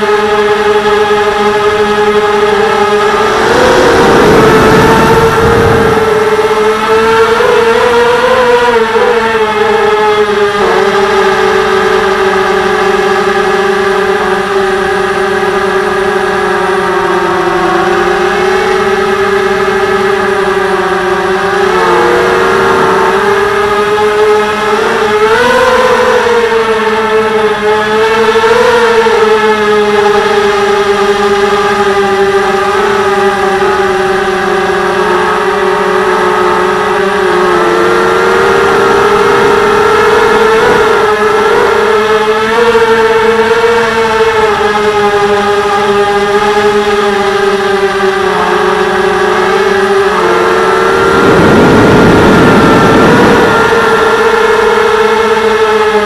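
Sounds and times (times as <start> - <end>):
drone motors and propellers whining: 0.0 - 56.0.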